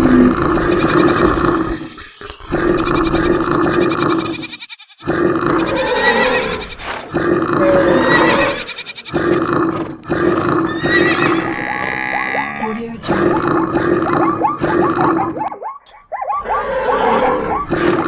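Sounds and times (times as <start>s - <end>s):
animal roars and grunts: 0.0s - 4.4s, 5.0s - 15.5s, 16.3s - 18.0s.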